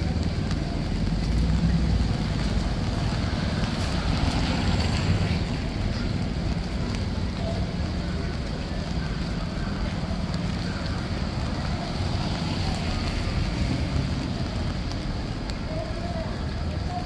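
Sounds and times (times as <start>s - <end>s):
city street noise: 0.0s - 17.0s.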